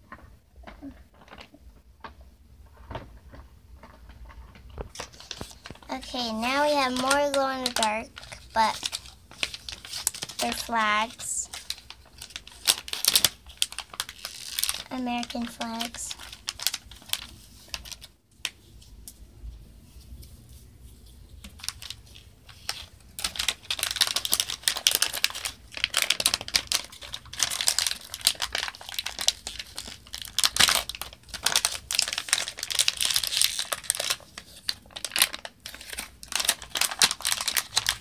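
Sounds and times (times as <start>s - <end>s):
plastic packaging crinkling: 0.0s - 18.7s, 21.3s - 38.0s.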